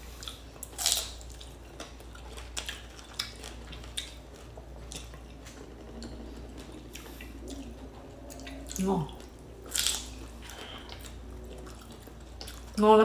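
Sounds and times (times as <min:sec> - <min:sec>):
biting and chewing fruit: 0:00.0 - 0:12.8.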